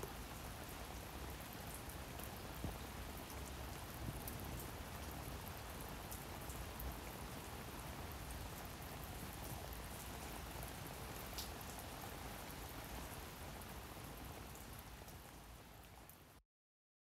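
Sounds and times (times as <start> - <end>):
rain falling steadily: 0.0 - 16.4.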